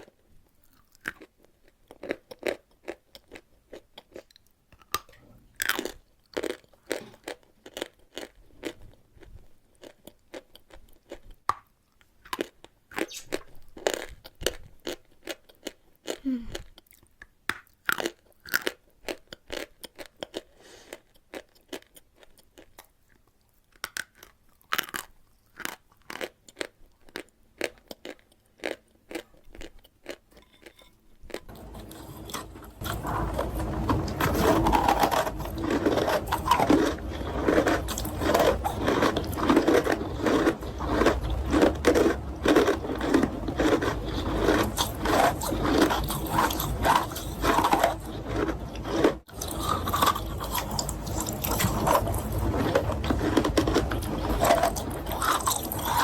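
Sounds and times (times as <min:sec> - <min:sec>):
crunching and chewing chalk: 0:00.0 - 0:56.0.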